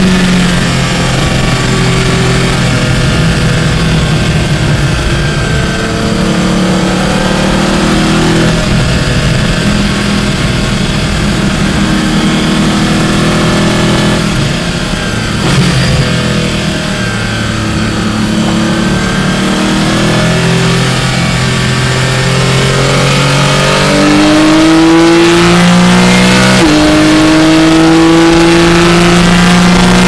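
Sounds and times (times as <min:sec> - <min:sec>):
race car engine running hard: 0:00.0 - 0:30.0
road and wind noise: 0:00.0 - 0:30.0.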